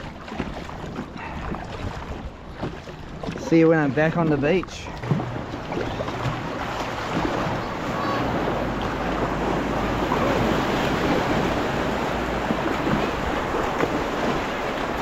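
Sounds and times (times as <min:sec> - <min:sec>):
water splashing around kayak: 0:00.0 - 0:15.0
wind buffeting microphone: 0:00.0 - 0:15.0.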